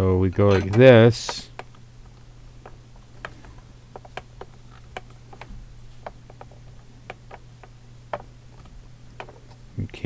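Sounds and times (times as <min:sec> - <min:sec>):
low electrical hum: 0:00.0 - 0:10.0
plastic parts clicking and tapping: 0:00.3 - 0:10.0.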